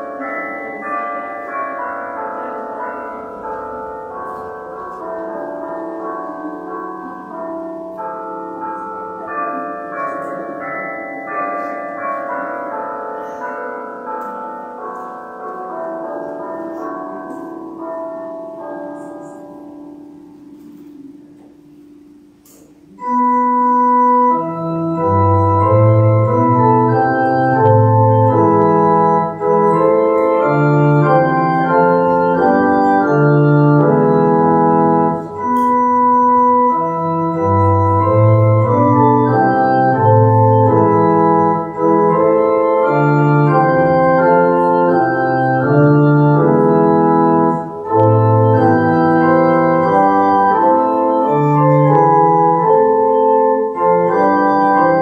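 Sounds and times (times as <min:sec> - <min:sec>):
organ playing sustained chords: 0:00.0 - 0:55.0.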